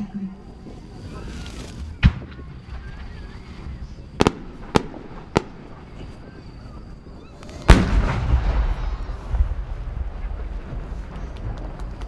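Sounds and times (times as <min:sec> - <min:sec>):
firework cracks: 0:00.8 - 0:12.0
heavy firework boom: 0:01.9 - 0:12.0.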